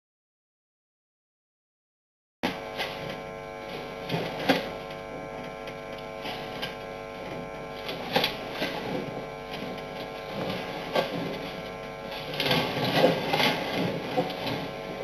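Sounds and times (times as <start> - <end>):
steady electrical hum: 2.4 - 15.0.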